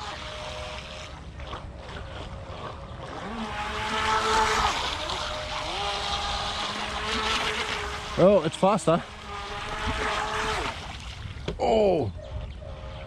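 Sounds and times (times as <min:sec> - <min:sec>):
electric motor whining: 0:00.0 - 0:11.6
water rushing: 0:00.0 - 0:12.1.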